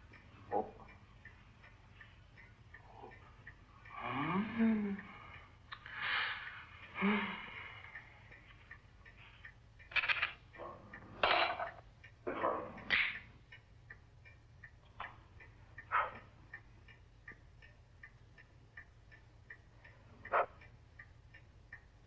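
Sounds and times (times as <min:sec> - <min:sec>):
steady light ticking: 0:00.0 - 0:22.0.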